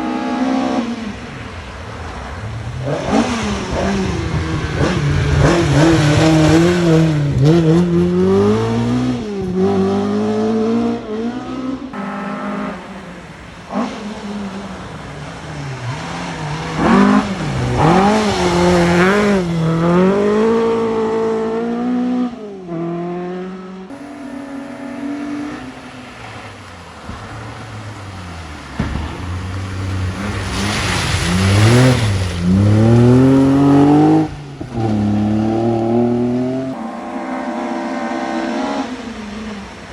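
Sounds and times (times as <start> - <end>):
rally car engines revving past: 0.0 - 39.9.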